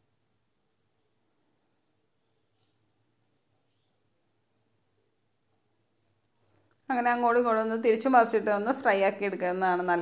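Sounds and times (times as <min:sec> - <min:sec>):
faint low hum and hiss: 0:00.0 - 0:10.0.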